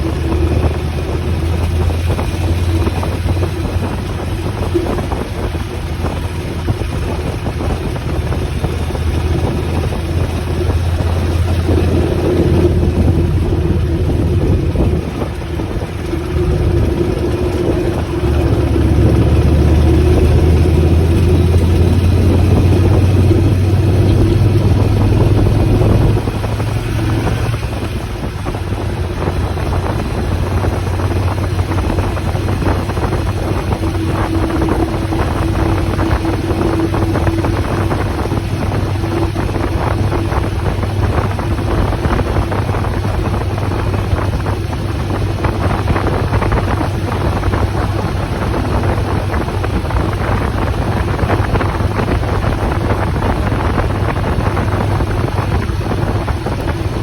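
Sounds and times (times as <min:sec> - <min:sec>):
motorcycle engine drone: 0:00.0 - 0:57.0.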